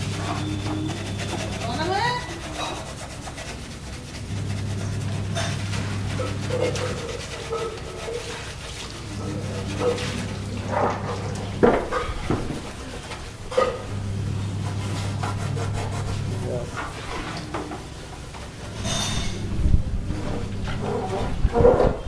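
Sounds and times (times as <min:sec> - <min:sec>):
scrubbing stove parts: 0:00.0 - 0:19.5.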